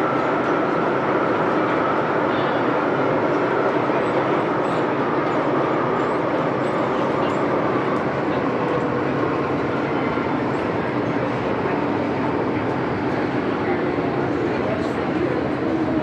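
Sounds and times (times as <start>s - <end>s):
train running through tunnel: 0.0s - 16.0s.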